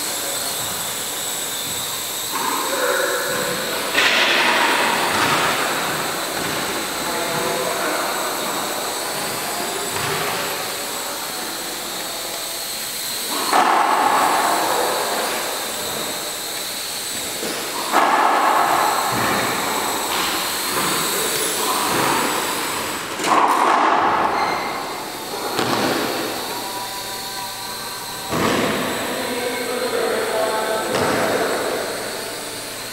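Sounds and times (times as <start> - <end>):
toy quadcopter propellers buzzing: 0.0 - 32.9.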